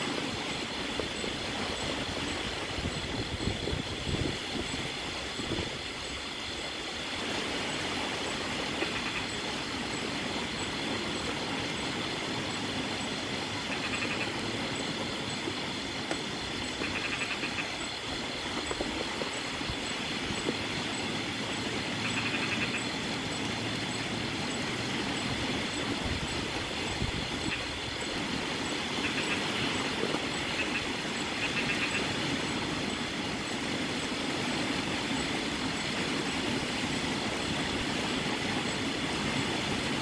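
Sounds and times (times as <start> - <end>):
rain falling: 0.0 - 40.0
wind through palm trees: 0.0 - 40.0.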